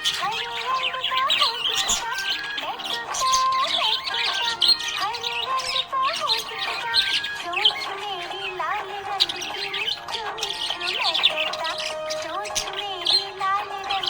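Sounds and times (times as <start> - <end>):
budgerigars chirping and squawking: 0.0 - 14.0
music with sung melody: 0.0 - 14.0.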